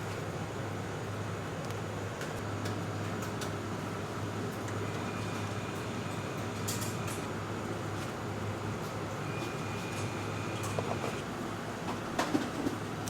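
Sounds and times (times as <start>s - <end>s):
machinery hum: 0.0s - 12.2s.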